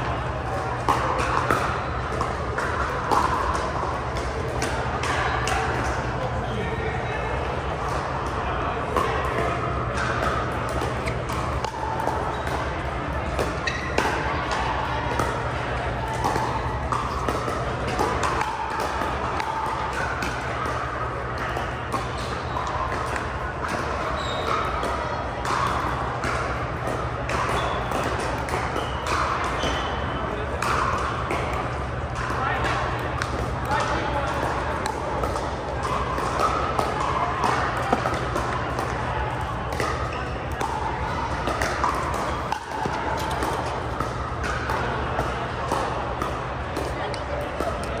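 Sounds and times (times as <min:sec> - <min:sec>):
paddles hitting plastic ball: 0:00.0 - 0:06.3, 0:07.7 - 0:48.0
faint voices: 0:00.0 - 0:48.0.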